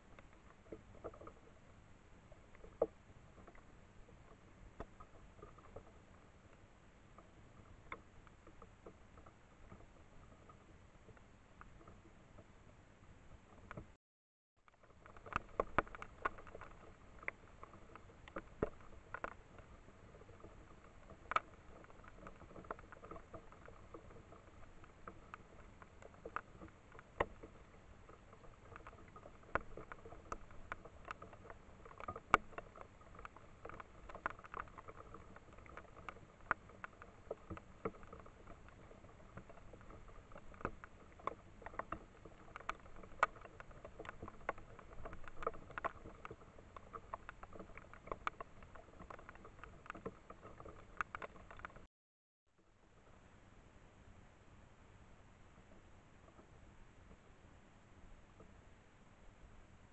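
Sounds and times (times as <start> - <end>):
faint steady hiss: 0.0 - 14.0, 14.6 - 51.9, 52.6 - 59.9.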